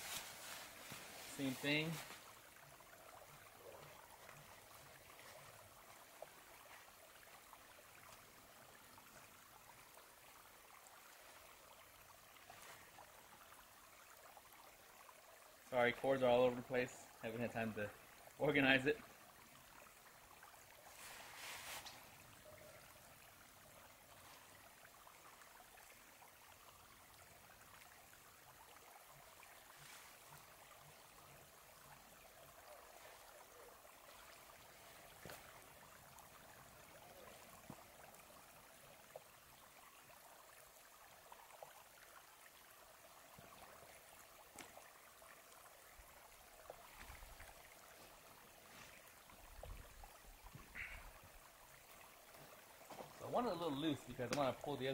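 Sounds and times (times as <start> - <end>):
faint steady hiss: 0.0 - 54.9.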